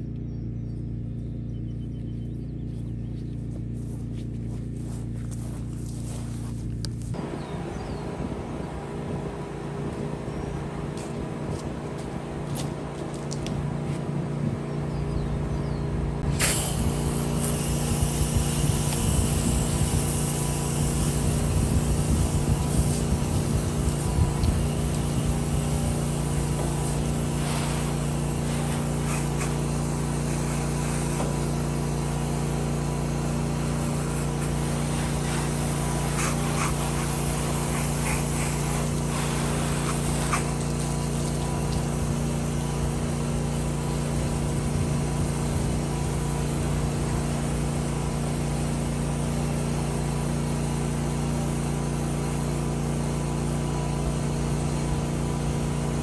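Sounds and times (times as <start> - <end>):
gas engine running steadily: 0.0 - 56.0.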